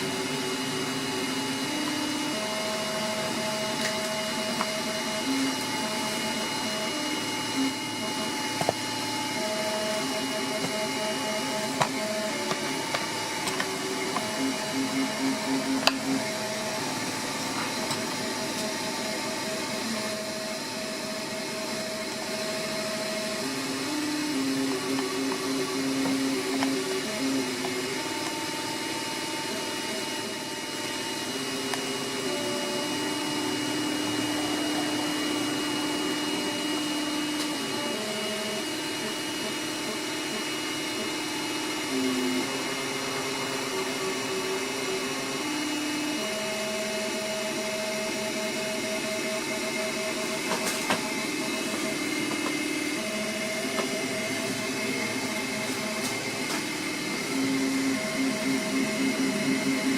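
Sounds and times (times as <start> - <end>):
stepper motors whining: 0.0 - 59.9.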